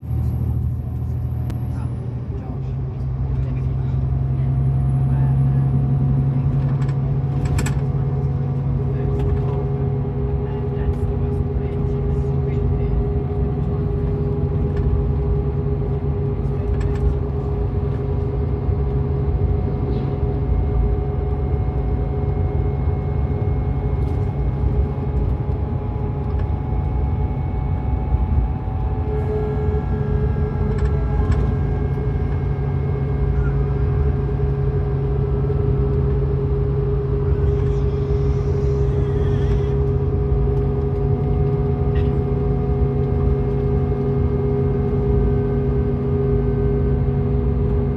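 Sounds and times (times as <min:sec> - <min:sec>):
diesel engine drone: 0:00.0 - 0:47.9
road rumble: 0:00.0 - 0:47.9.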